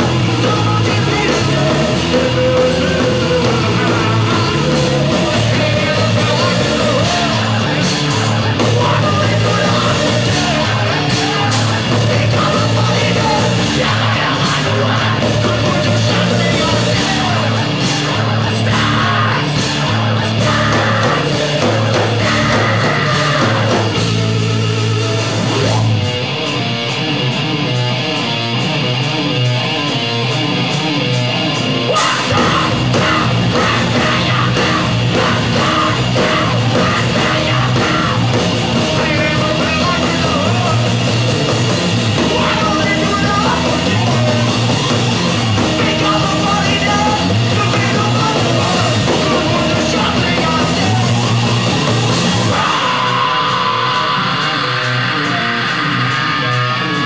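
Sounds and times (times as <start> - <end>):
person singing and yelling: 0.0 - 26.4, 31.6 - 57.0
rock band playing live: 0.0 - 57.0.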